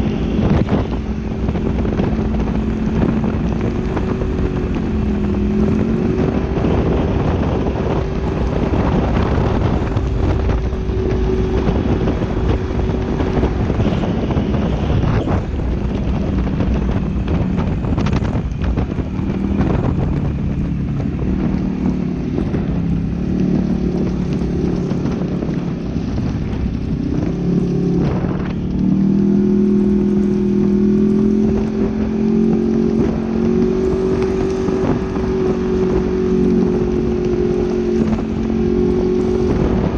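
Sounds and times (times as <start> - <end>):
vehicle engine running: 0.0 - 39.9
wind rumbling on microphone: 0.0 - 39.9.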